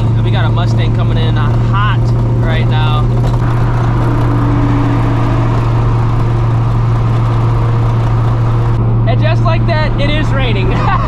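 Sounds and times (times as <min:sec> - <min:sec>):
car exhaust drone: 0:00.0 - 0:11.0.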